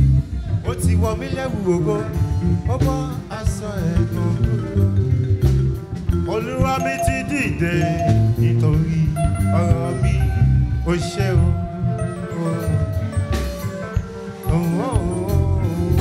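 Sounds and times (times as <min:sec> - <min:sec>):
bass guitar: 0:00.0 - 0:16.0
drums playing a beat: 0:00.0 - 0:16.0
guitar: 0:00.0 - 0:16.0.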